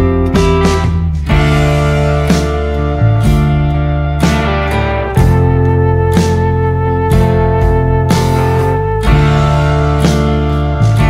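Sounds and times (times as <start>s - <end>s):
guitar background music: 0.0s - 11.0s.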